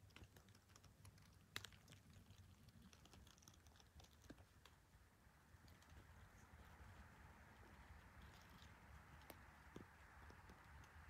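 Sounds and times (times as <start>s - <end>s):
faint small clicks and crackles: 0.0s - 11.0s.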